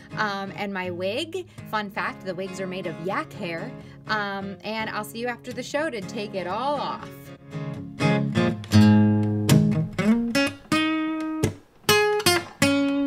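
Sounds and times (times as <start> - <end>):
acoustic guitar plucked notes: 0.0 - 13.0.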